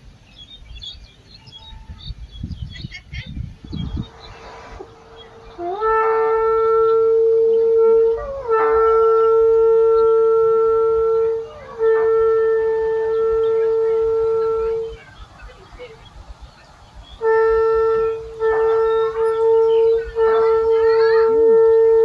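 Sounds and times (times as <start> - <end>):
wind instrument long held notes: 3.2 - 22.0.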